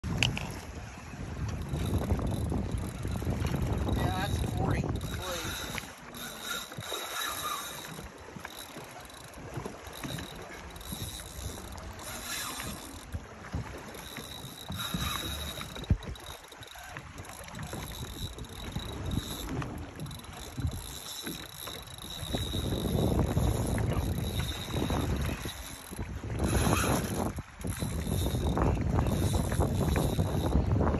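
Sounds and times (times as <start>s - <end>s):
water lapping against boat hull: 0.0s - 30.9s
wind buffeting microphone: 0.0s - 30.9s.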